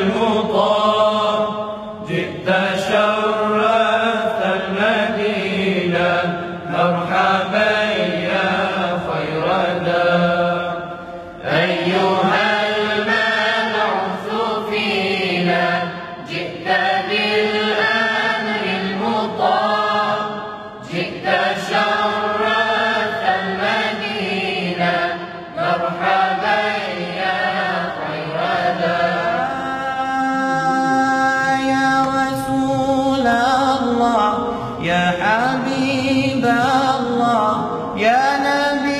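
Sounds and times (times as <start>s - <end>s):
male choir chanting: 0.0s - 38.9s.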